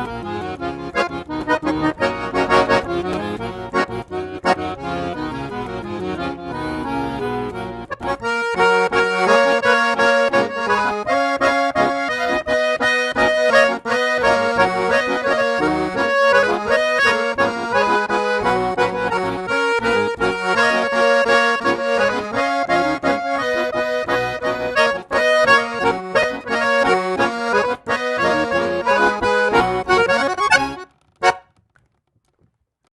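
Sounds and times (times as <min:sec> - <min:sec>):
accordion playing: 0:00.0 - 0:31.6.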